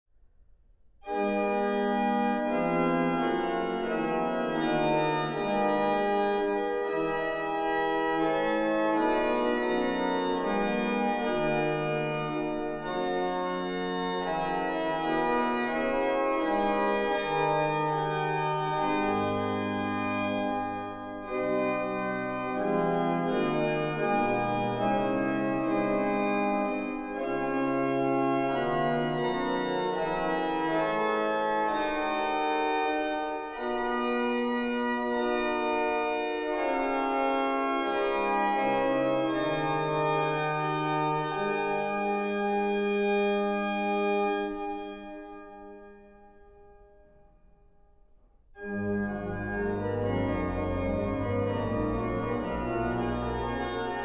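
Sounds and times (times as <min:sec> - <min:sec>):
pipe organ playing a chorale: 0:01.0 - 0:46.8, 0:48.6 - 0:54.0.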